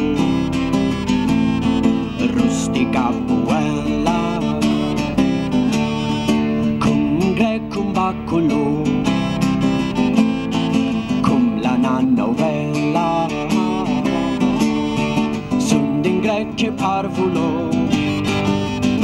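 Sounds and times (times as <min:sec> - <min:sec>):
acoustic guitar strumming folk tune: 0:00.0 - 0:19.0
wavering melody line: 0:00.0 - 0:19.0.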